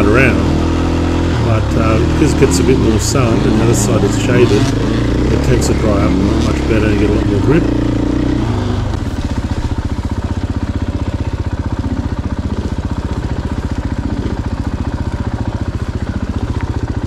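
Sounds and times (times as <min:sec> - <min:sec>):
dirt bike engine idling: 0:00.0 - 0:17.0.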